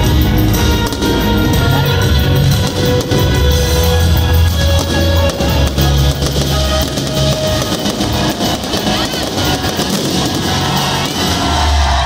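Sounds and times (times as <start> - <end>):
music with guitar and bass: 0.0 - 9.7
fireworks crackling and popping: 0.0 - 12.0.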